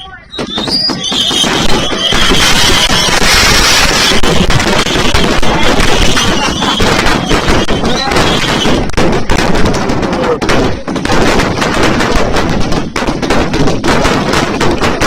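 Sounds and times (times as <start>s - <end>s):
firecrackers banging and crackling: 0.1s - 15.0s.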